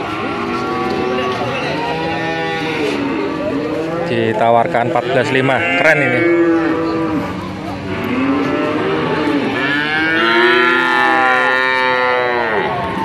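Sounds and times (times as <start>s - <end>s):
cattle mooing: 0.0s - 13.0s.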